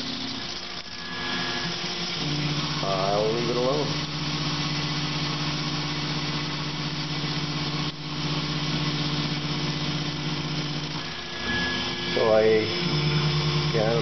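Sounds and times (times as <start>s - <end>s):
coolant spraying hiss: 0.0s - 14.0s
mill spindle humming: 0.0s - 14.0s.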